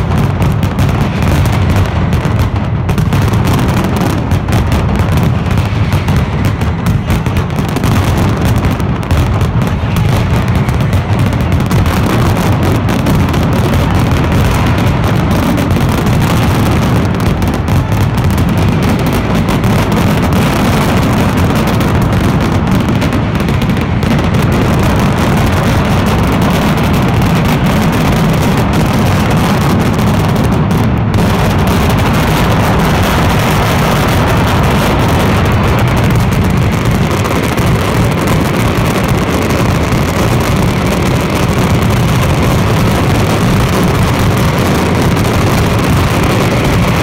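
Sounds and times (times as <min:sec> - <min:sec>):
large firecrackers exploding: 0:00.0 - 0:47.0.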